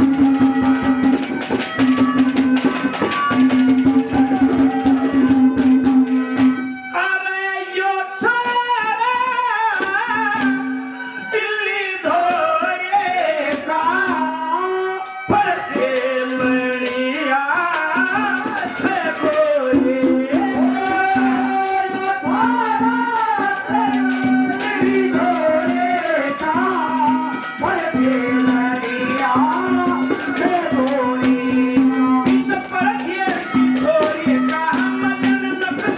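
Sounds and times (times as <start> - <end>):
hand drum: 0.0 - 6.7, 8.8 - 14.7, 15.3 - 35.9
folk melody over drone: 0.0 - 35.9.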